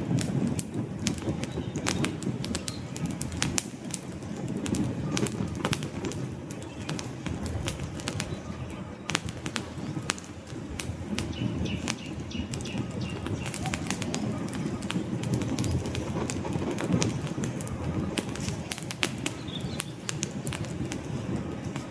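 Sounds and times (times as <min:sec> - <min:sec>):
fire flames rushing: 0:00.0 - 0:21.9
logs crackling and popping: 0:00.0 - 0:21.9.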